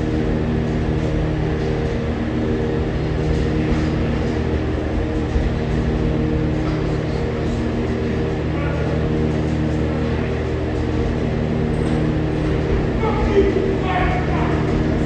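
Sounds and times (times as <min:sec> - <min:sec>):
subway train droning tones: 0:00.0 - 0:15.0
train rumble: 0:00.0 - 0:15.0.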